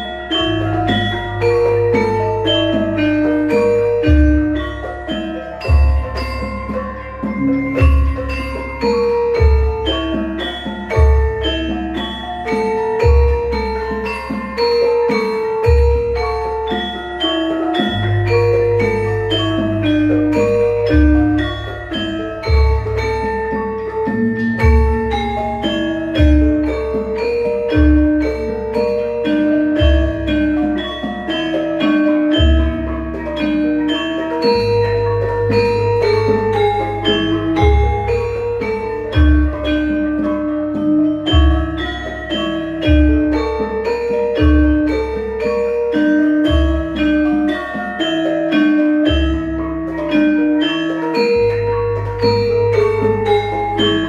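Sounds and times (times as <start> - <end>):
gamelan ensemble playing: 0.0 - 54.0
low ringing tone: 0.0 - 54.0.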